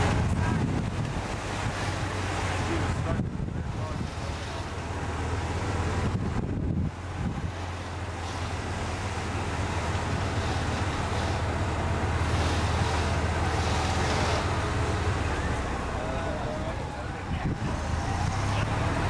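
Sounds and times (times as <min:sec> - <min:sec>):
golf cart running: 0:00.0 - 0:19.0
wind rushing over microphone: 0:00.0 - 0:19.0.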